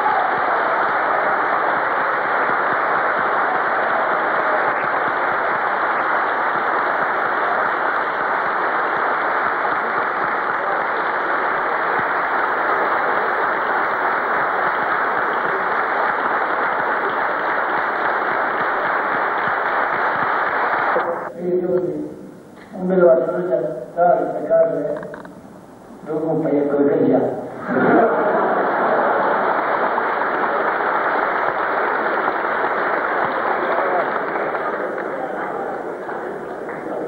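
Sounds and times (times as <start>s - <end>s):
audience applause: 0.0s - 21.3s, 27.6s - 37.0s.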